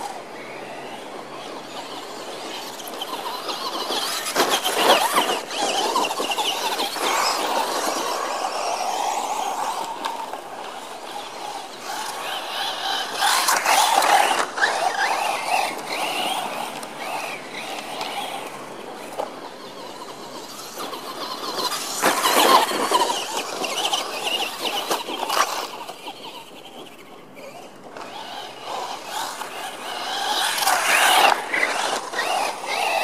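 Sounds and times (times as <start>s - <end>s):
electric motors whining: 0.0s - 33.0s
tyres on loose dirt: 0.0s - 33.0s.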